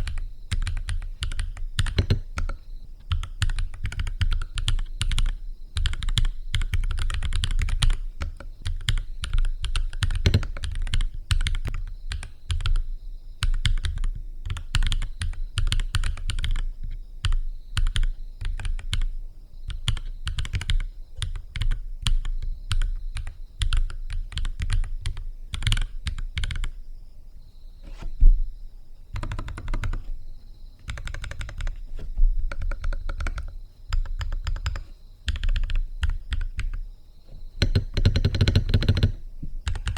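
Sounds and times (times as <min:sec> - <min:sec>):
mechanical keyboard typing: 0:00.0 - 0:12.8, 0:13.4 - 0:16.6, 0:17.2 - 0:19.1, 0:19.7 - 0:26.7, 0:29.2 - 0:30.1, 0:30.8 - 0:31.8, 0:32.4 - 0:36.8, 0:37.6 - 0:39.9.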